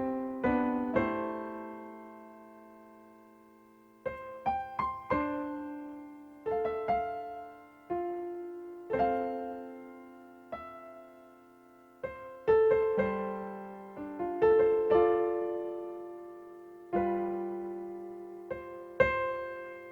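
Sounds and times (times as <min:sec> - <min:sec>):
slow piano music: 0:00.0 - 0:19.9.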